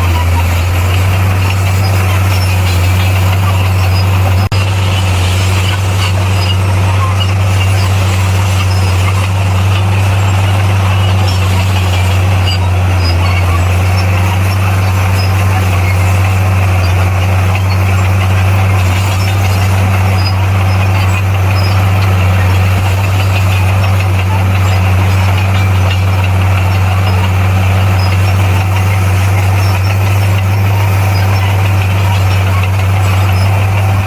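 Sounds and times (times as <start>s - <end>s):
diesel engine droning: 0.0s - 34.0s.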